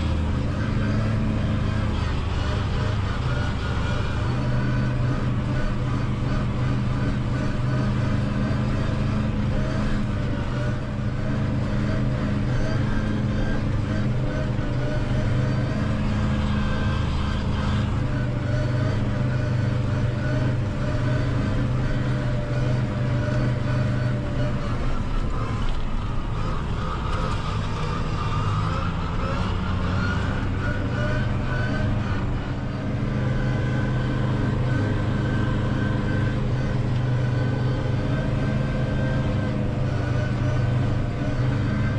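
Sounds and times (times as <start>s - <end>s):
drum mower humming: 0.0s - 41.9s
tractor diesel engine running: 0.0s - 41.9s.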